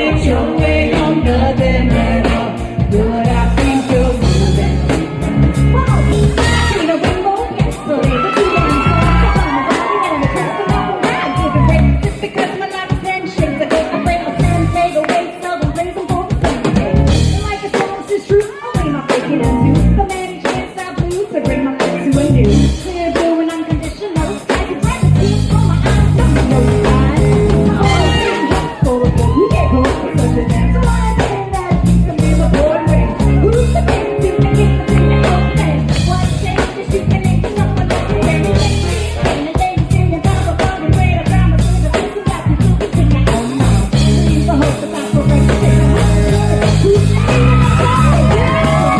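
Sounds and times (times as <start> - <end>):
bass: 0.0 - 48.9
drum kit: 0.0 - 48.9
guitar: 0.0 - 48.9
person singing: 0.0 - 48.9.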